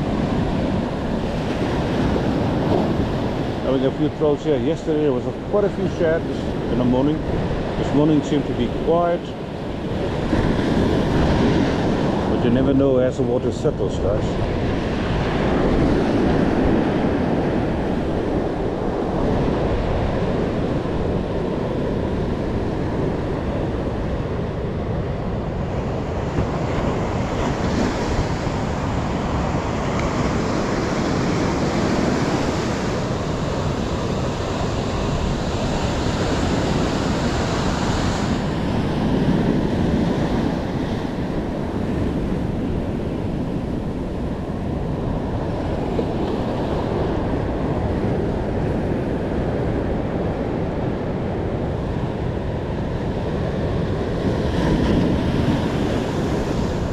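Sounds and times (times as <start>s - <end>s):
ocean surf breaking: 0.0s - 56.9s
wind buffeting the microphone: 0.0s - 56.9s.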